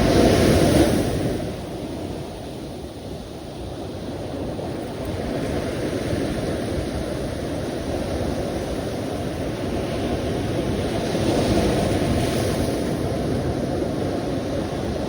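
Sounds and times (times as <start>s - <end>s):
sea waves washing in surf: 0.0s - 15.0s.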